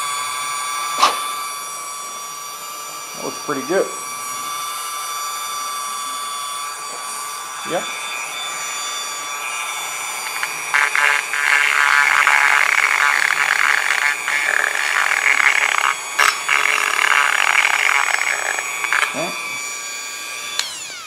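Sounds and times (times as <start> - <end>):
rotary tool grinding metal: 0.0 - 21.0.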